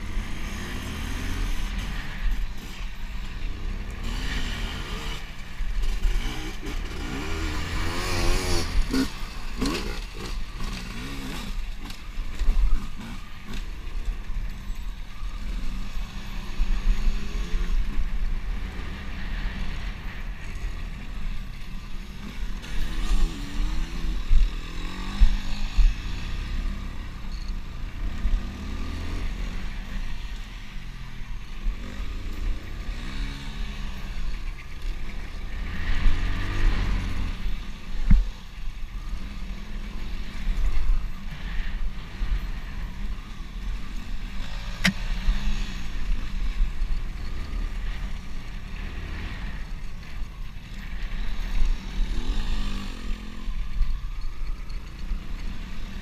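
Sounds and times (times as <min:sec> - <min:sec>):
dirt bike engine revving: 0:00.0 - 0:14.5, 0:15.1 - 0:30.7, 0:31.3 - 0:56.0.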